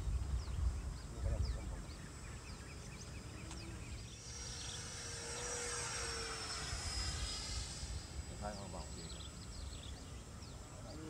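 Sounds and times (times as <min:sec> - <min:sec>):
birds chirping: 0:00.0 - 0:11.0
model jet fan whining: 0:00.0 - 0:11.0.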